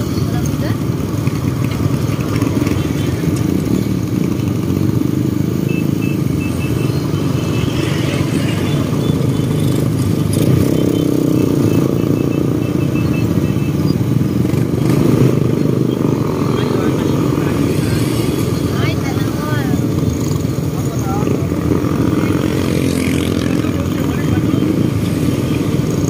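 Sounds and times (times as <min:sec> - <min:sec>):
motorcycle engines running: 0:00.0 - 0:26.0
road noise: 0:00.0 - 0:26.0.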